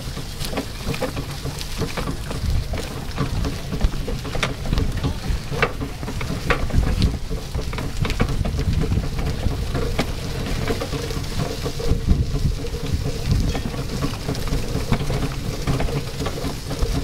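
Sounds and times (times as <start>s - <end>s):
rickshaw rolling on dirt: 0.0s - 17.0s.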